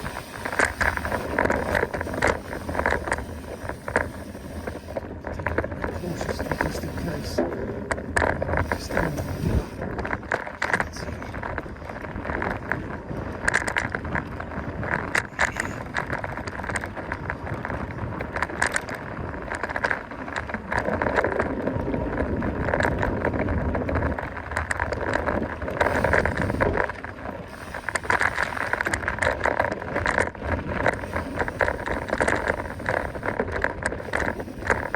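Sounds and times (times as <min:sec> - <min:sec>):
bike frame and chain rattling: 0:00.0 - 0:34.9
bike tyres crunching on ground: 0:00.0 - 0:34.9.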